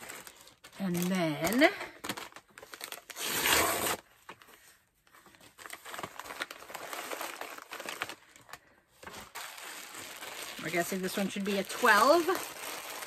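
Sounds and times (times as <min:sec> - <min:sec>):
plastic bag and paper crinkling: 0:00.0 - 0:13.0.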